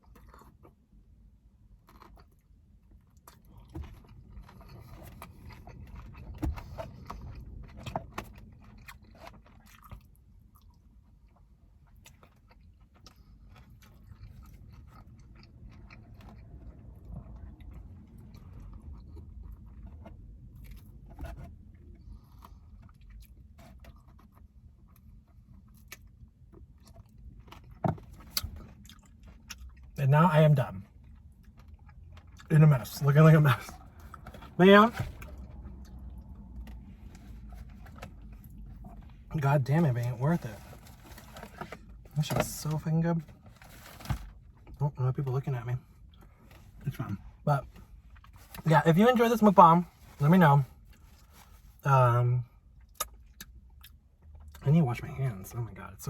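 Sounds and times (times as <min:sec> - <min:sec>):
chewing and crunching: 0:00.0 - 0:44.8, 0:45.9 - 0:48.7, 0:52.5 - 0:54.8.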